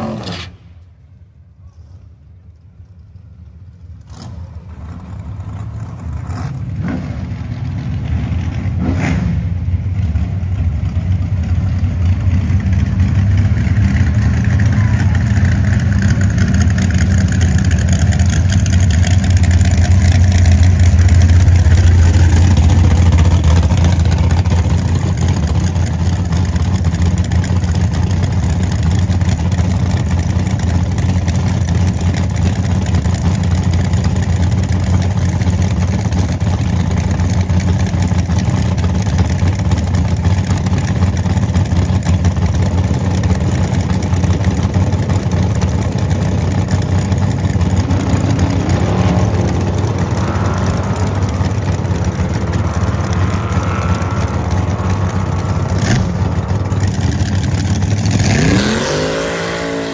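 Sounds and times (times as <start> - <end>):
race car engine idling: 9.5 - 59.6.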